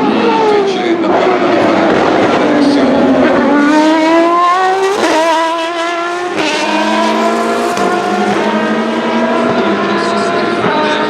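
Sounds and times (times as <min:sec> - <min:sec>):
race car accelerating: 0:00.0 - 0:11.0.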